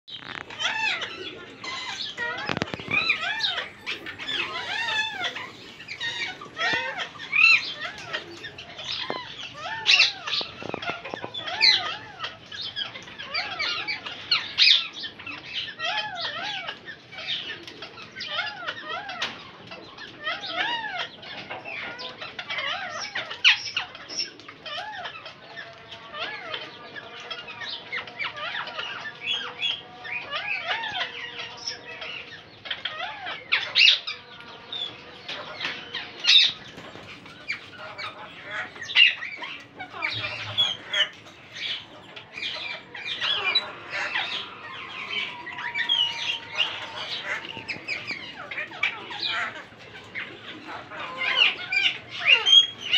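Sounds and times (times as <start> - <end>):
parakeets chirping and calling: 0.1 - 52.9.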